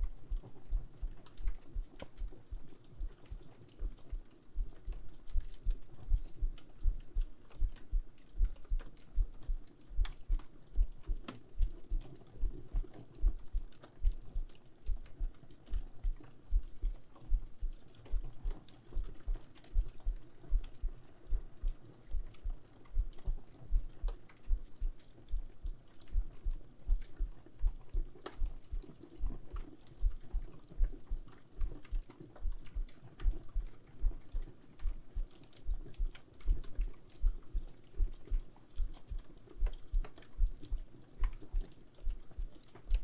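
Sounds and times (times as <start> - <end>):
heartbeat thumps: 0.0 - 43.0.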